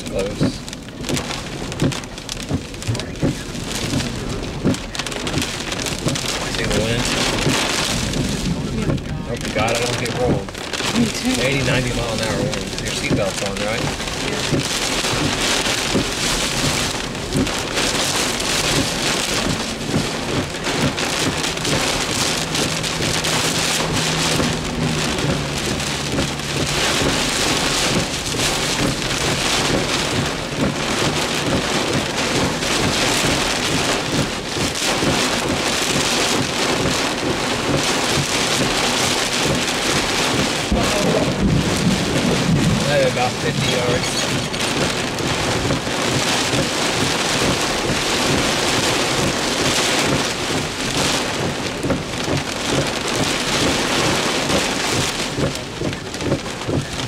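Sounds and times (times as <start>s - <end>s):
heavy rain beating on a vehicle: 0.0s - 57.0s.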